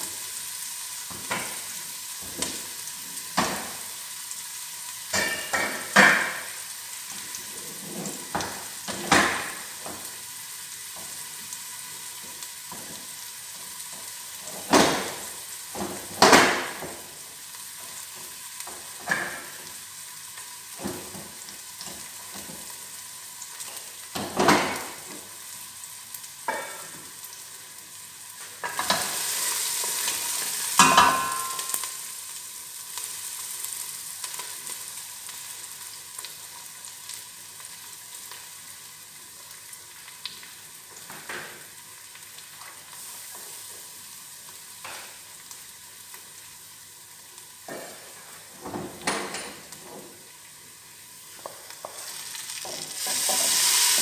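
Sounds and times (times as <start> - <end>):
sizzling hiss from pot: 0.0 - 54.0.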